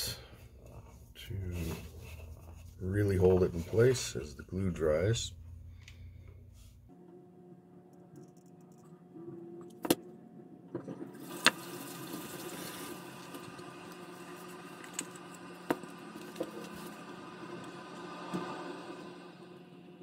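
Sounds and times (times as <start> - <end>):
steady hum: 0.0 - 11.0, 12.8 - 20.0.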